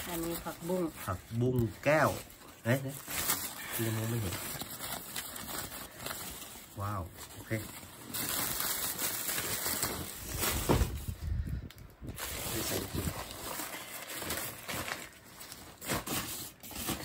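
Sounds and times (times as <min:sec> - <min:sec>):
newspaper rustling and crinkling: 0:00.0 - 0:17.0.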